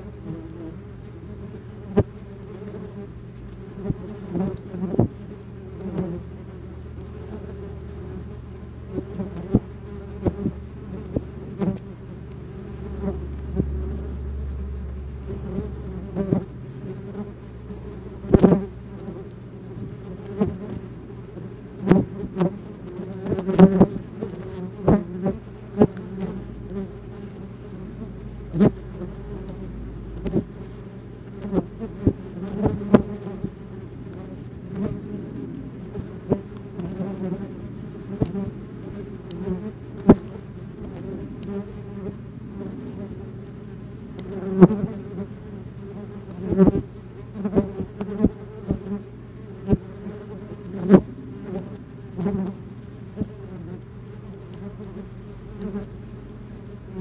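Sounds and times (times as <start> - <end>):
wasps buzzing: 0.0 - 57.0.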